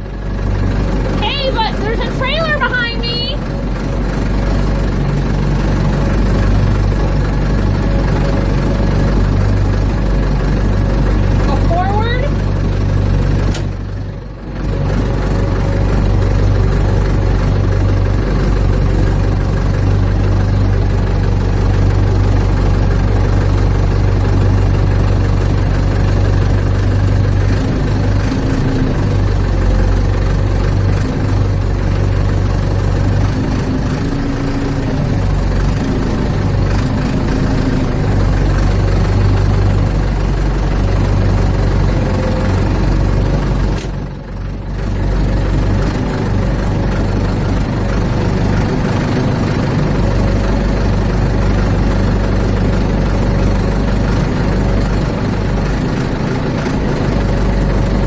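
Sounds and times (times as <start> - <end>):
backhoe engine running: 0.0 - 58.0.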